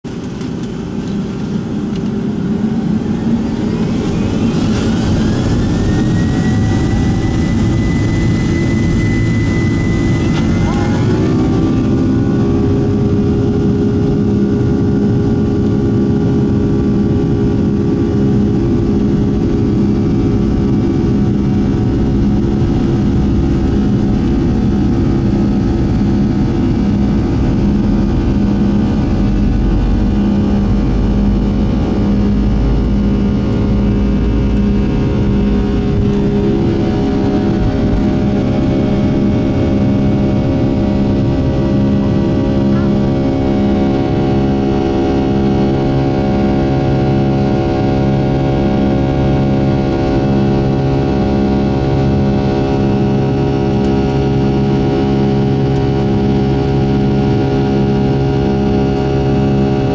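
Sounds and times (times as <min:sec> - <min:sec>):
jet engines at takeoff thrust: 0:00.0 - 0:59.9
wheels rumbling on runway: 0:00.0 - 0:59.9.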